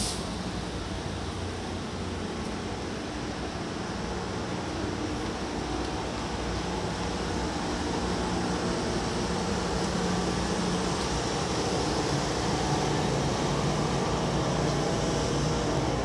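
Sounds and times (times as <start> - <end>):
electric train interior hum: 0.0 - 16.0.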